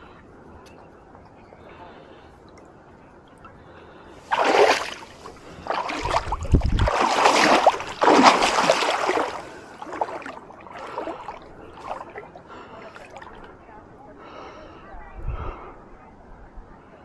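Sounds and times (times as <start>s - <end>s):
water splashing and sloshing: 0.0s - 13.7s.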